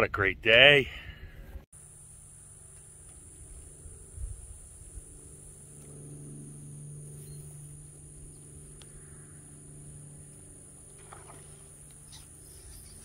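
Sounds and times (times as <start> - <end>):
low steady hum: 0.0 - 13.0
crickets trilling: 1.8 - 13.0.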